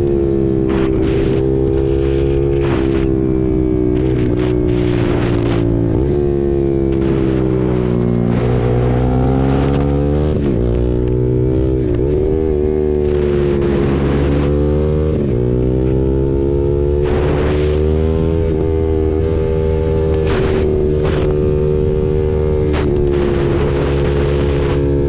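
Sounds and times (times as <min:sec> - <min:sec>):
wind noise gusts: 0:00.0 - 0:16.2, 0:16.9 - 0:25.0
motorcycle engine revving: 0:00.0 - 0:25.0.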